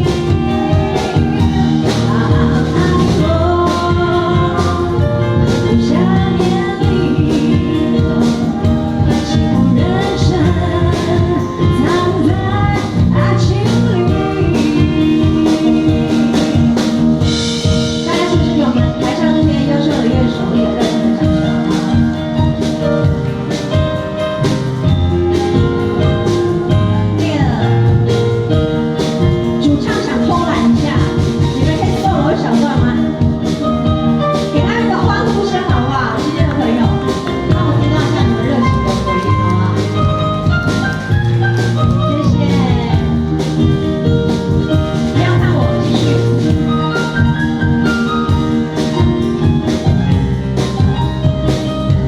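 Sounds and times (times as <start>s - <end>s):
song with singing and beat: 0.0s - 52.0s.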